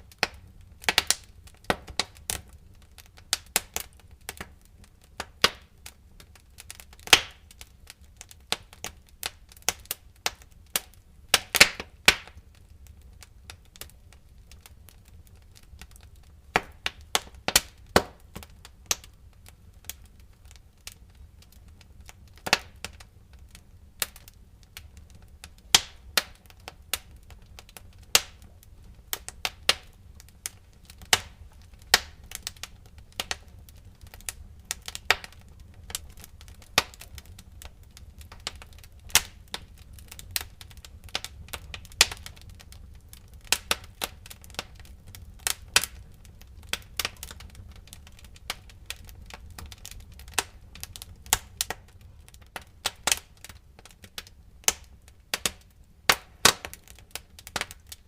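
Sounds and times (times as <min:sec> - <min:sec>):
firewood crackling and popping: 0:00.0 - 0:58.0.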